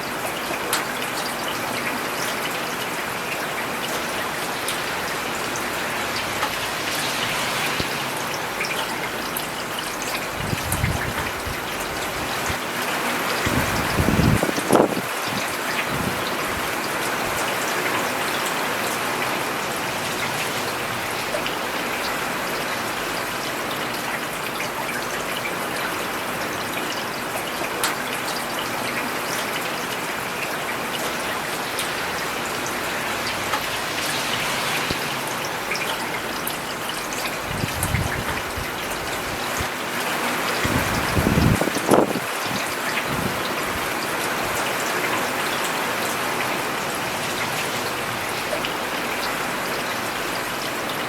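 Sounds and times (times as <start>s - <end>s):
rain falling on paved road: 0.0s - 51.0s.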